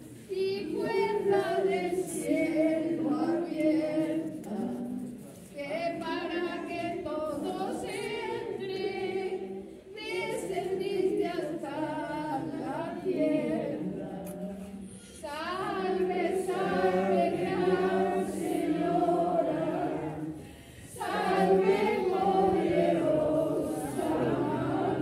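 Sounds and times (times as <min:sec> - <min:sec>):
crowd singing unaccompanied: 0:00.0 - 0:25.0.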